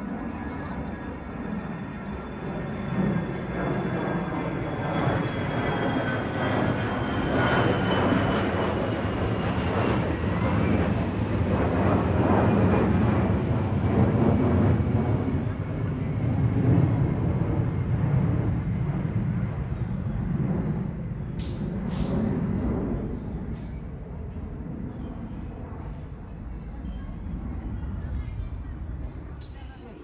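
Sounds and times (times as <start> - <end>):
jet airliner engine roar: 0.0 - 30.0.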